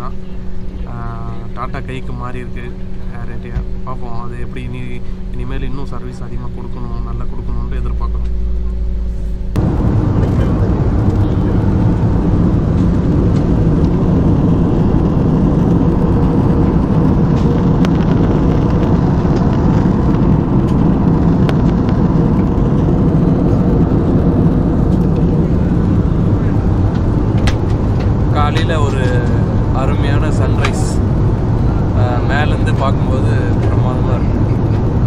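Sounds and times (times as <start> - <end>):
jet airliner cabin noise: 0.0 - 35.0.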